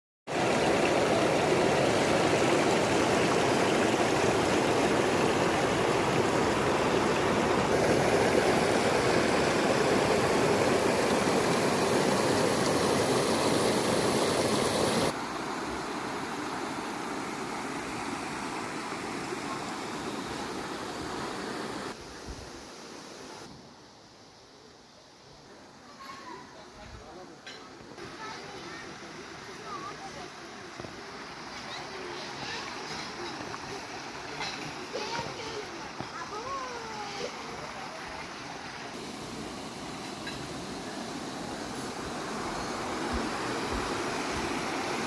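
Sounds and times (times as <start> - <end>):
running water rushing: 0.3 - 24.7, 25.3 - 45.0.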